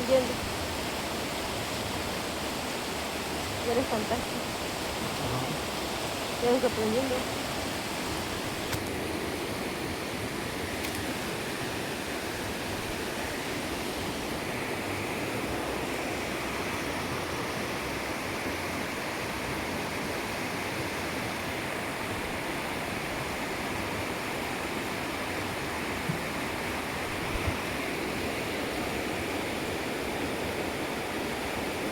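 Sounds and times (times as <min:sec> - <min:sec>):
running water rushing: 0:00.0 - 0:31.9.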